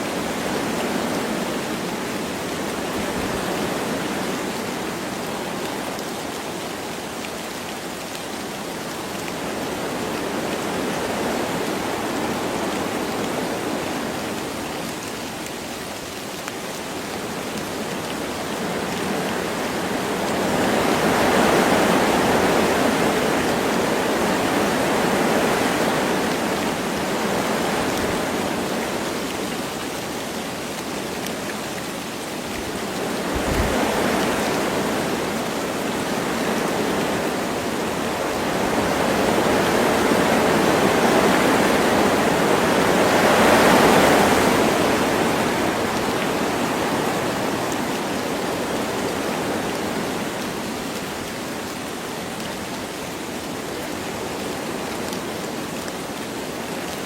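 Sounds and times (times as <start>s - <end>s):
light rain: 0.0s - 57.0s
wind gusting through trees: 0.0s - 57.0s.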